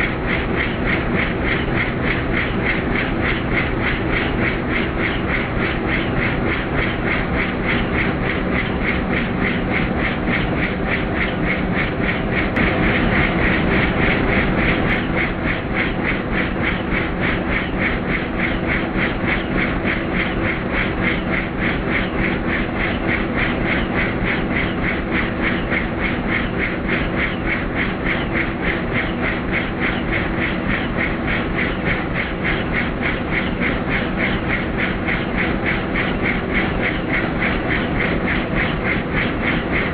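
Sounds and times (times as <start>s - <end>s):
helicopter engine hum: 0.0s - 39.9s
helicopter rotor beating: 0.0s - 39.9s.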